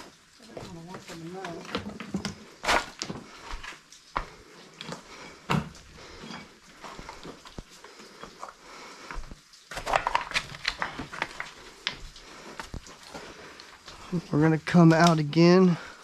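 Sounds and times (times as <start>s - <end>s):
footsteps on loose stone slabs: 0.4s - 15.3s.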